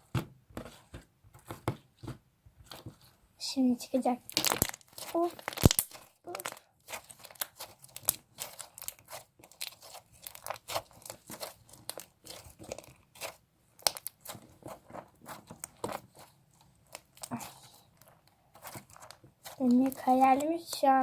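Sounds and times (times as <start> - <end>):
slime crackling and popping: 4.0 - 21.0.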